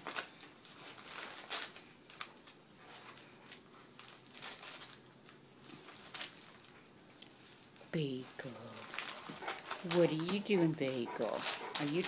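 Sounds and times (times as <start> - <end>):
dog tearing magazine pages: 0.0 - 6.8, 8.6 - 12.0.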